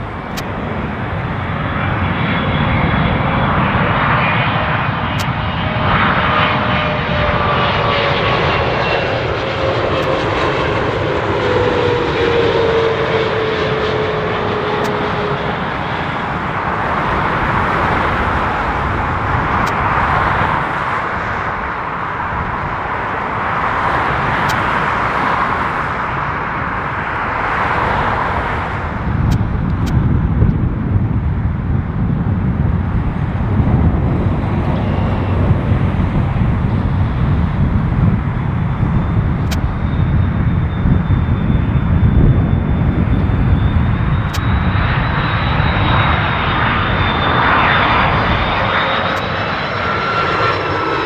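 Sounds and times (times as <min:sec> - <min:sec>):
jet roar with falling whine: 0:00.0 - 0:51.0
jetliner landing roll rumble: 0:00.0 - 0:51.0.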